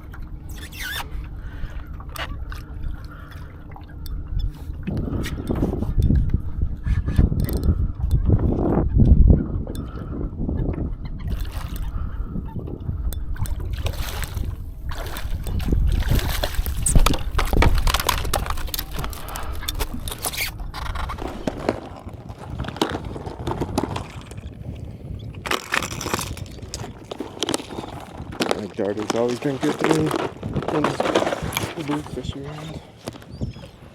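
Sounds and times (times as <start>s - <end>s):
water sloshing against hull: 0.0s - 33.9s
wind buffeting microphone: 0.0s - 33.9s.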